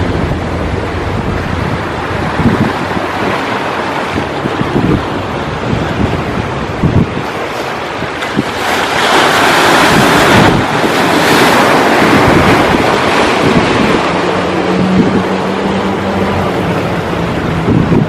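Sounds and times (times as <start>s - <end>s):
sea waves washing in: 0.0s - 18.0s
wind buffeting microphone: 0.0s - 18.0s.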